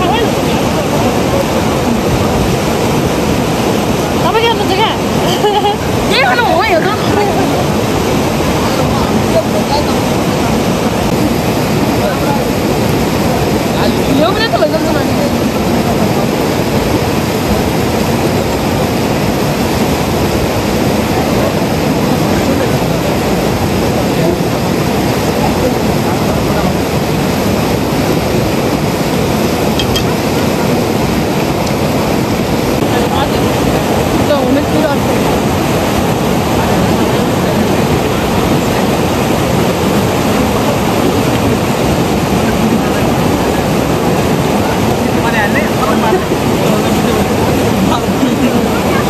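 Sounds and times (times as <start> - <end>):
river rushing over rocks: 0.0 - 49.0.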